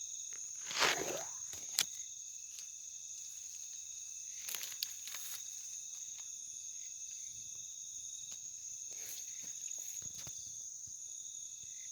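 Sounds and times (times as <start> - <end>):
crickets trilling: 0.0 - 11.9.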